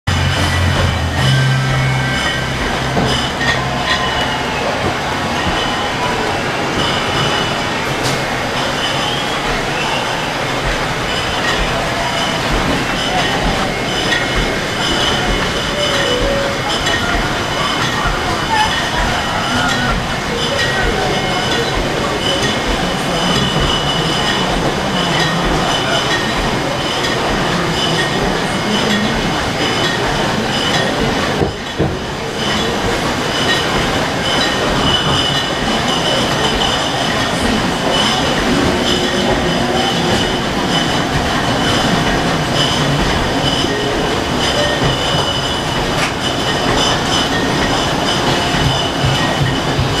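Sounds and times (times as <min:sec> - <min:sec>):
steady high machine whine: 0:00.0 - 0:50.0
glass bottles clattering on conveyor: 0:00.1 - 0:50.0.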